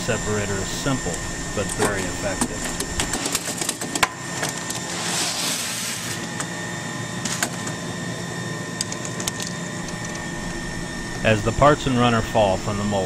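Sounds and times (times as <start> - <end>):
machine humming and whining: 0.0 - 13.0.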